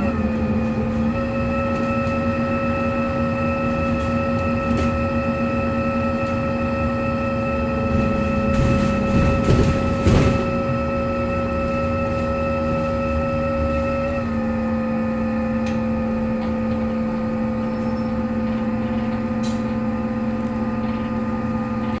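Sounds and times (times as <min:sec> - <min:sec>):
bus whirring and whining: 0:00.0 - 0:22.0.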